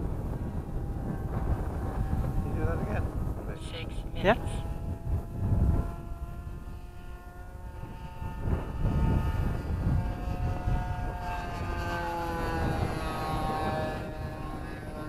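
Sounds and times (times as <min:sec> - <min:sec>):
model plane engine buzzing: 0:00.0 - 0:15.0
wind rumbling on microphone: 0:00.0 - 0:15.0.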